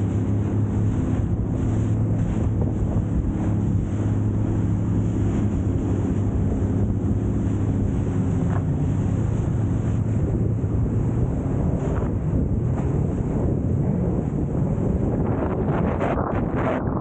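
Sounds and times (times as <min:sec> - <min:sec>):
jet ski engine droning: 0:00.0 - 0:17.0
wind buffeting microphone: 0:00.0 - 0:17.0.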